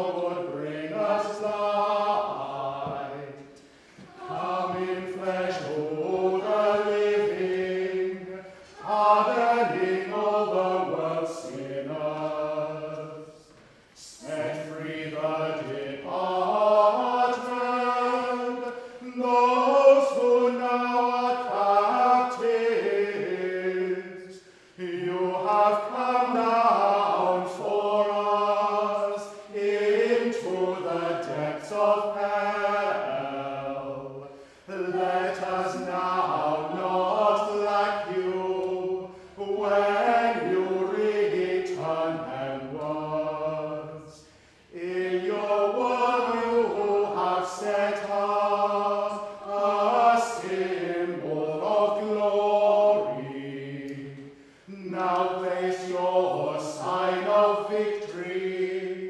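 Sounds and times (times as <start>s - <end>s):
group of singers chanting: 0.0s - 59.0s.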